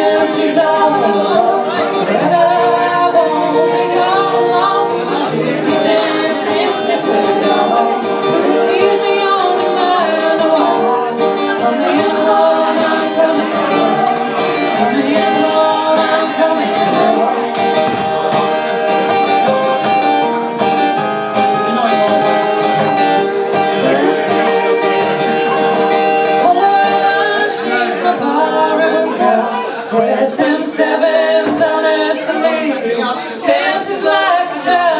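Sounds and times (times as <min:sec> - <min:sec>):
person singing: 0:00.0 - 0:20.0, 0:21.3 - 0:34.9
guitar playing: 0:00.0 - 0:34.9.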